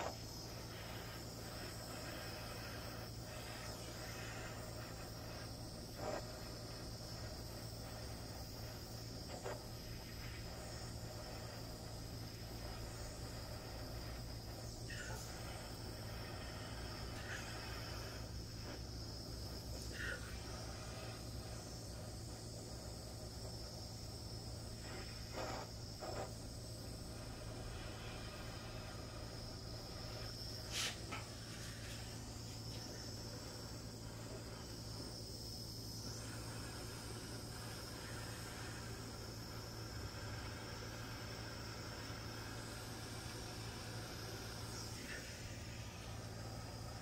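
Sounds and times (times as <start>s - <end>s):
butane torch hissing: 0.0s - 47.0s.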